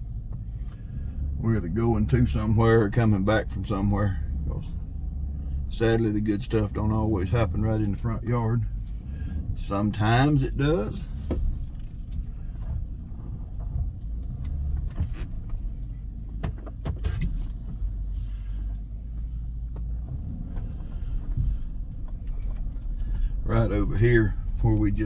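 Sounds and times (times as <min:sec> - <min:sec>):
truck engine and road rumble: 0:00.0 - 0:25.0.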